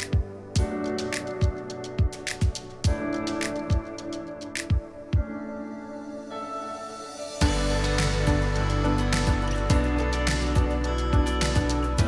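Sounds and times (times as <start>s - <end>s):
electronic drum beat: 0.0s - 5.4s, 7.4s - 12.0s.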